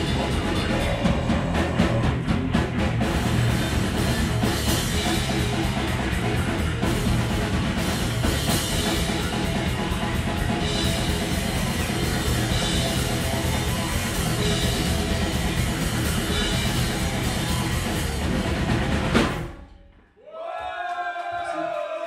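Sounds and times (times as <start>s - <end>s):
fast drum kit with cymbals: 0.0s - 19.6s
metal band playing live: 0.0s - 19.6s
distorted guitars: 0.0s - 19.7s.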